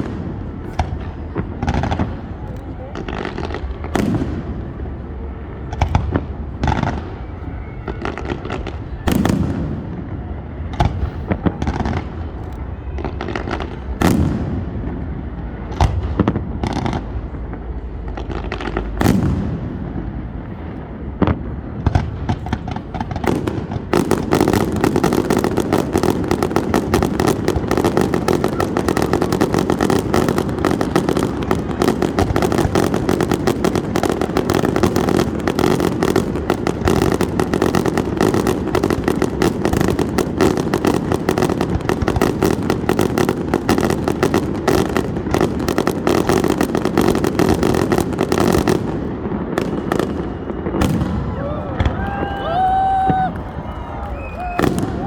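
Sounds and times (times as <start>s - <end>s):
fireworks booming: 0.0s - 55.0s.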